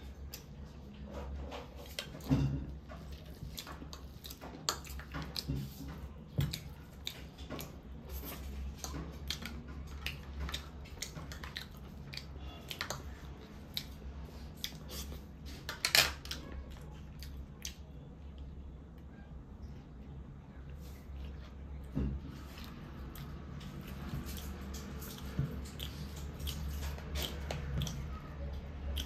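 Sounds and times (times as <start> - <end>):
chewing and crunching: 0.0 - 18.5, 22.2 - 29.0.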